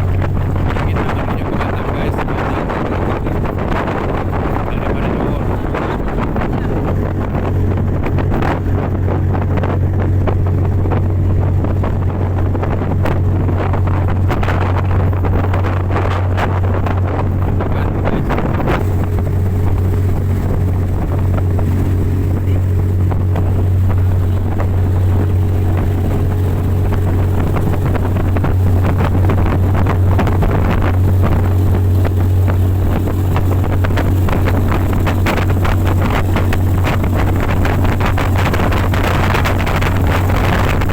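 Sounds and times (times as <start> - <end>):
motorboat engine drone: 0.0 - 40.9
rushing water: 0.0 - 40.9
wind buffeting microphone: 0.0 - 40.9.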